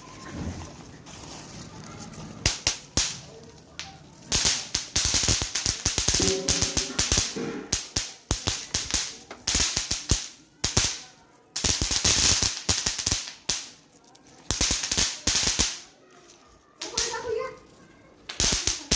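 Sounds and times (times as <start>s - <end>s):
firecrackers cracking: 0.0s - 18.9s.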